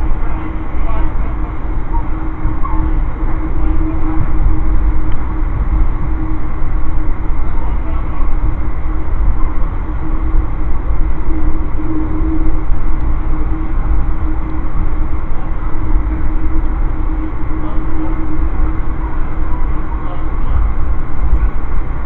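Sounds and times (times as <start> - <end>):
constant hum: 0.0 - 22.0
wheels rumbling on rail: 0.0 - 22.0.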